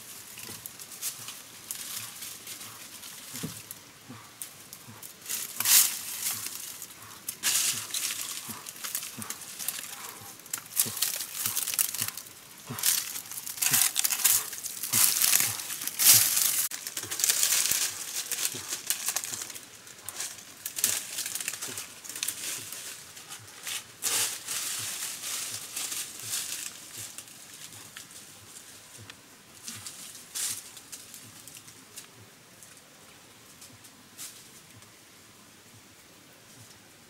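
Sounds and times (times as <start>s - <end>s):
crackling and rustling: 0.0s - 35.0s.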